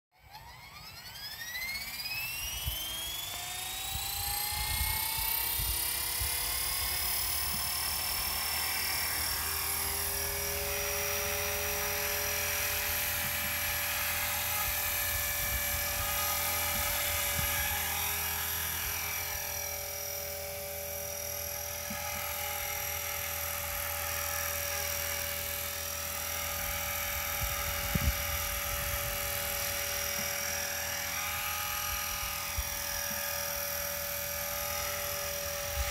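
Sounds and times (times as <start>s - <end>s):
rc helicopter motor whine: 0.1s - 35.9s.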